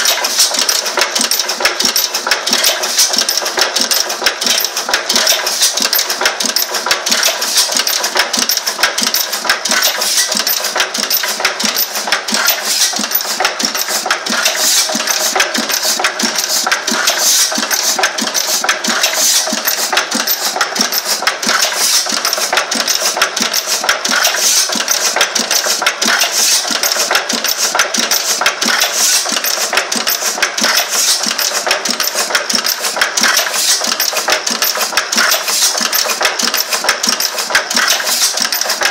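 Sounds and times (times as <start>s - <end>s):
rapid metallic clicking: 0.0s - 38.9s
stationary engine running: 0.0s - 38.9s.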